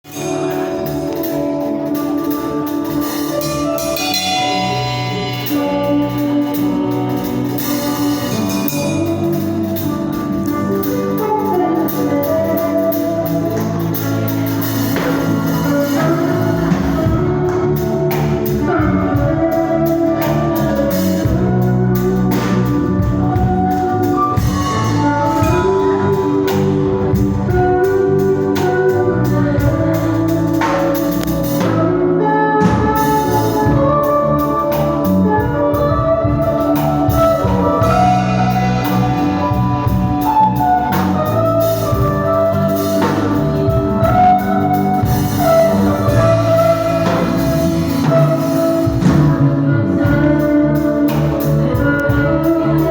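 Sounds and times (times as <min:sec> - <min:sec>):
steady drum beat: 0:00.0 - 0:32.0, 0:32.6 - 0:52.9
instrumental band music: 0:00.0 - 0:52.9.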